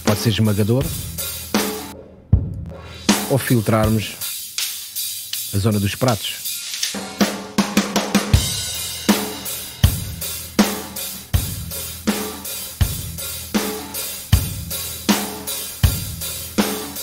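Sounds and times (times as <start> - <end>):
drum kit loop: 0.0 - 17.0.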